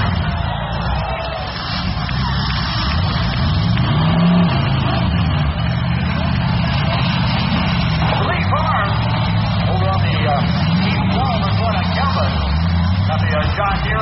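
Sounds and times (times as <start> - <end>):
car engines running loudly: 0.0 - 14.0
engine revving: 0.0 - 14.0.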